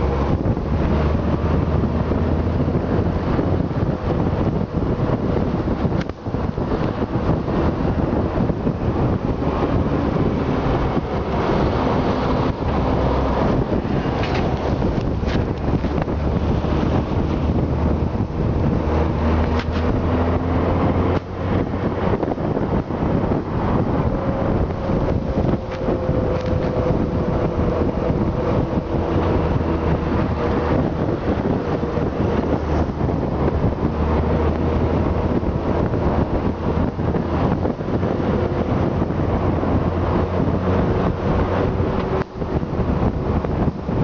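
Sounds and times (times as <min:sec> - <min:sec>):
motorcycle engine drone: 0:00.0 - 0:44.0
wind rushing over microphone: 0:00.0 - 0:44.0.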